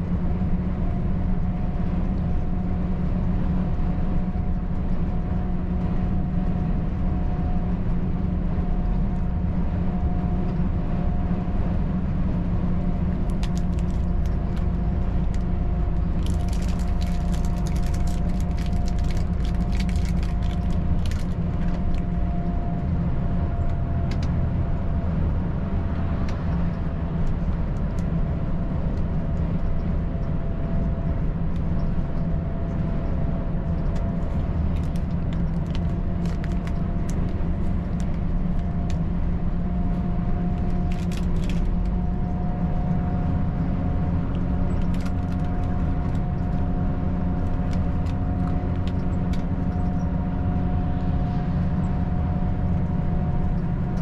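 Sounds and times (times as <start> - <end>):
road rumble: 0.0 - 54.0
truck diesel engine cruising: 0.0 - 54.0.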